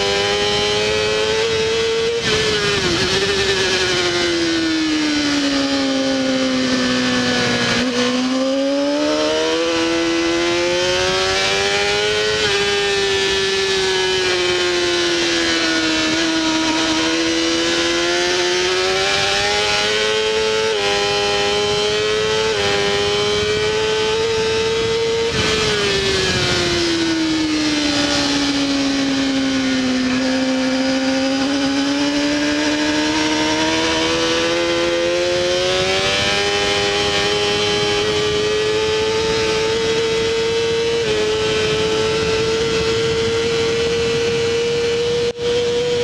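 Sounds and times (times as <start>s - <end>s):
motorcycle engine at high revs: 0.0s - 46.0s
wind rush: 0.0s - 46.0s.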